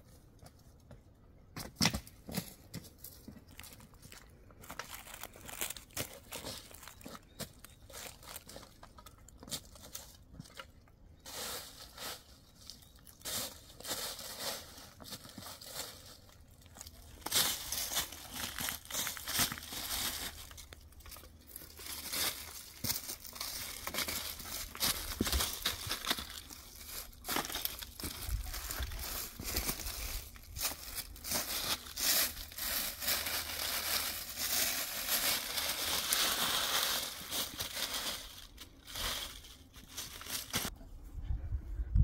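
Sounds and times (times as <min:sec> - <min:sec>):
dry leaves crunching underfoot: 0:03.0 - 0:10.6, 0:11.2 - 0:40.7.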